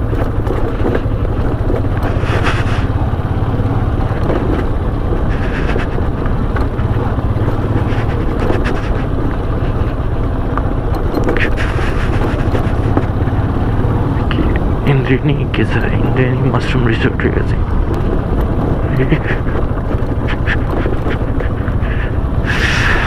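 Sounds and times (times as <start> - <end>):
motorcycle engine hum: 0.0 - 23.0
road noise: 0.0 - 23.0.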